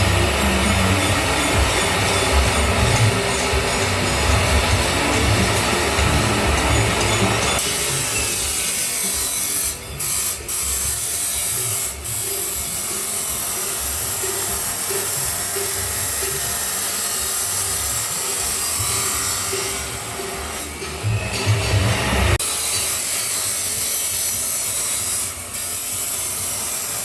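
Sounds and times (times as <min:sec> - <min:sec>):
grinder cutting steel pipe: 0:00.0 - 0:27.0.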